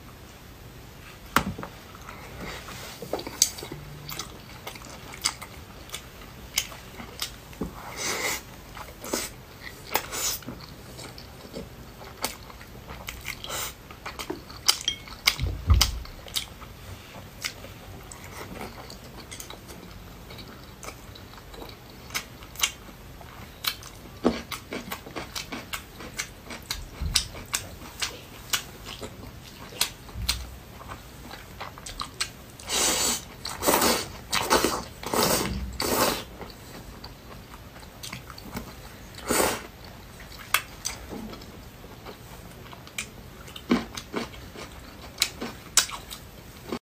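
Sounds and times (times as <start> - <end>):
chewing food: 2.0 - 46.8.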